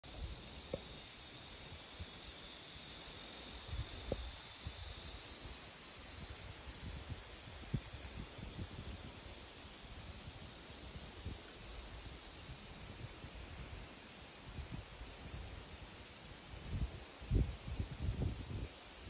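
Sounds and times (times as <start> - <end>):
cicadas singing: 0.0 - 19.0.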